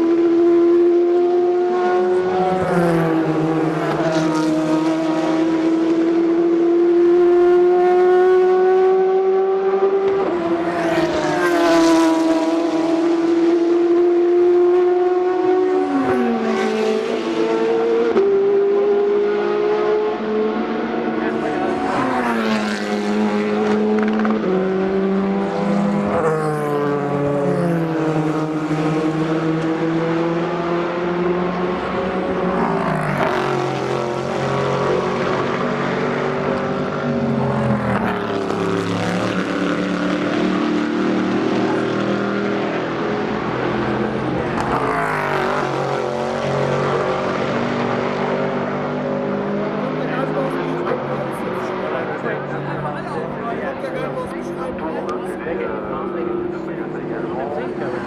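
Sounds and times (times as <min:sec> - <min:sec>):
race cars passing: 0:00.0 - 0:58.0.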